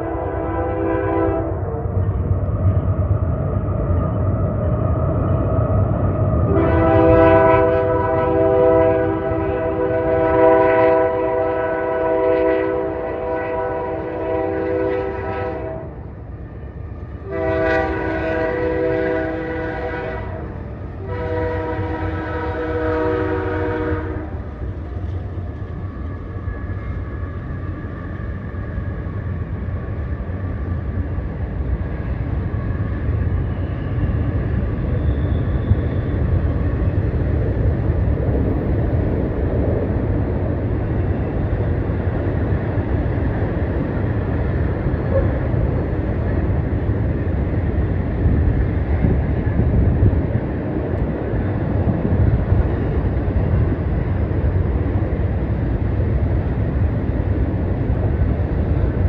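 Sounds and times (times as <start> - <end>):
train rumbling on bridge: 0.0 - 59.0.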